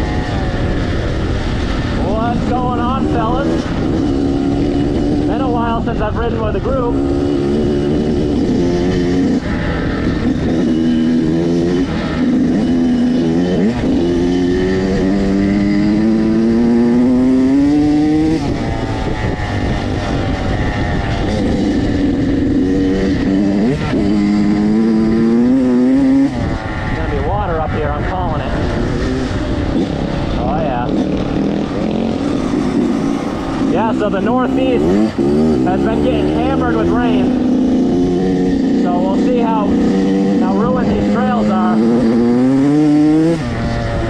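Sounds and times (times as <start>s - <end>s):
dirt bike engine accelerating: 0.0s - 44.0s.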